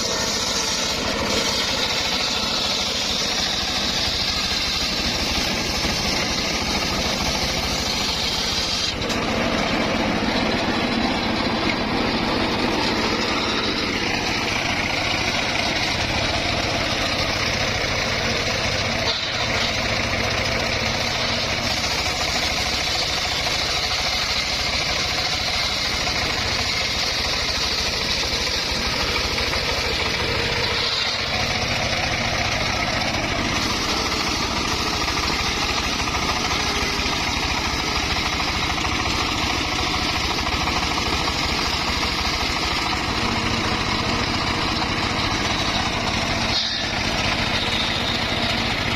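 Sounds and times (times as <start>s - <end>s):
circular sawmill cutting log: 0.0s - 48.9s.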